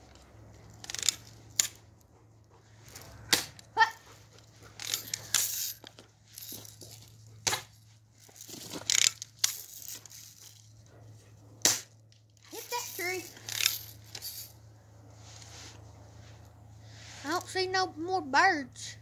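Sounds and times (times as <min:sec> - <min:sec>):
rustling handling noise: 0:00.0 - 0:17.7.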